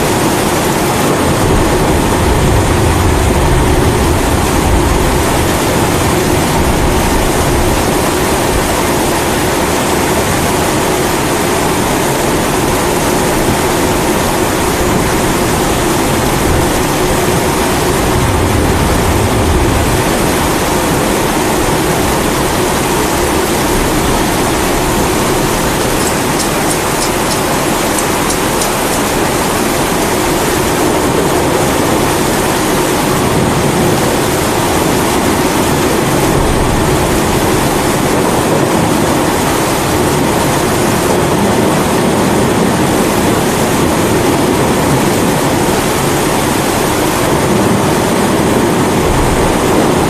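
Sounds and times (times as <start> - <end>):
rain falling: 0.0 - 50.0
thunder rumbling: 0.0 - 50.0.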